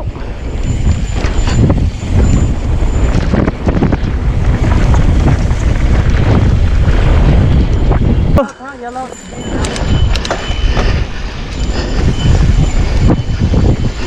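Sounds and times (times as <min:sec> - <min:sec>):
wind buffeting microphone: 0:00.0 - 0:14.0
bike knocks and rattles: 0:00.6 - 0:08.2, 0:09.6 - 0:14.0.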